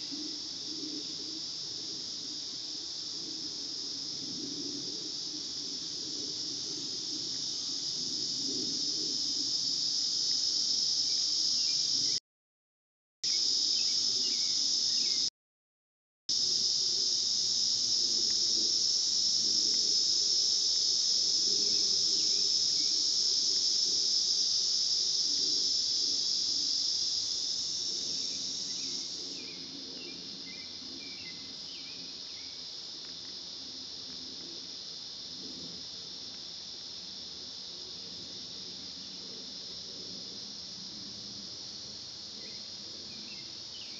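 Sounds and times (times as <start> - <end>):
insect chorus buzzing: 0.0 - 12.2, 13.2 - 15.3, 16.3 - 43.9.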